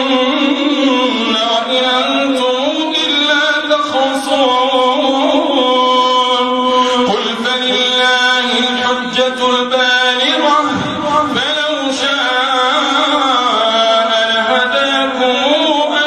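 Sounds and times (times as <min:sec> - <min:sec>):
man chanting prayer: 0:00.0 - 0:16.0.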